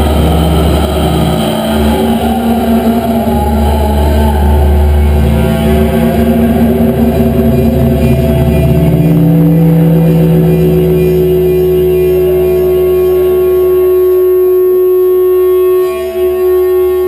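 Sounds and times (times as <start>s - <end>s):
industrial noise music drones: 0.0s - 17.0s.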